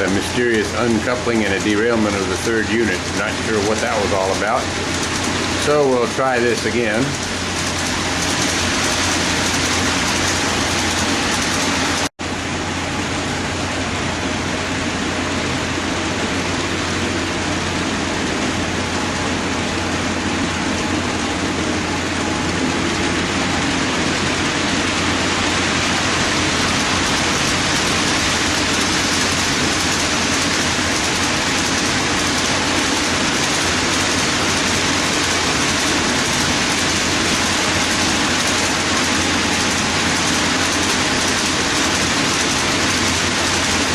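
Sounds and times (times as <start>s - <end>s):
model train wheels rolling on rails: 0.0s - 12.1s, 16.2s - 43.9s
low motor hum: 0.0s - 43.9s.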